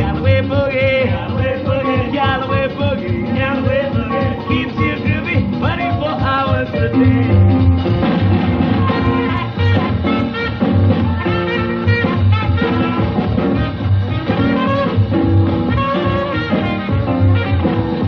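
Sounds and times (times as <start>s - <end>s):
drums: 0.0s - 18.0s
upright bass: 0.0s - 18.0s
trumpet: 1.1s - 18.0s.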